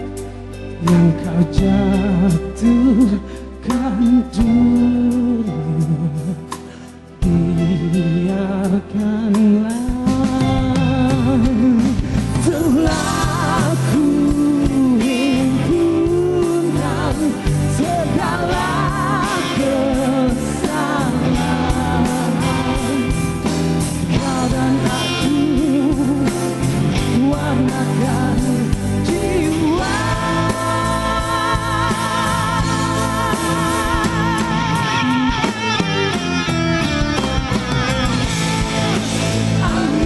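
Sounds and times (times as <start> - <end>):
person singing with vibrato: 0.0 - 36.5, 38.9 - 40.0
pop rock band playing: 0.0 - 40.0.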